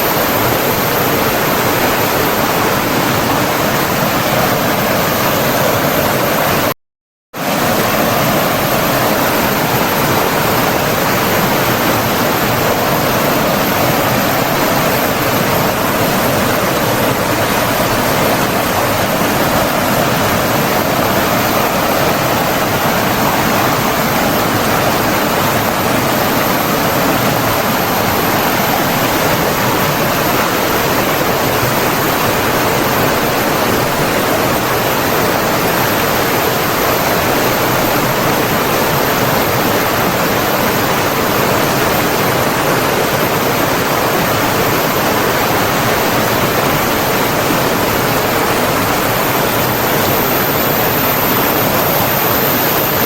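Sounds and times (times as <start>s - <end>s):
water rushing: 0.0s - 6.7s, 7.4s - 53.0s.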